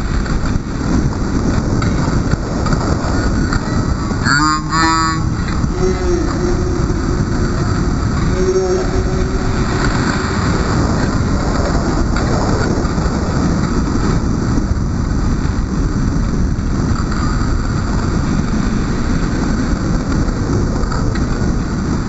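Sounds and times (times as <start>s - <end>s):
wind rushing on microphone: 0.0s - 22.0s.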